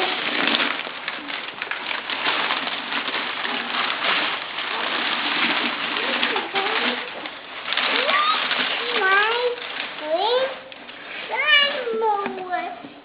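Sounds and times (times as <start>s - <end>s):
paper rustling and crinkling: 0.0s - 12.7s.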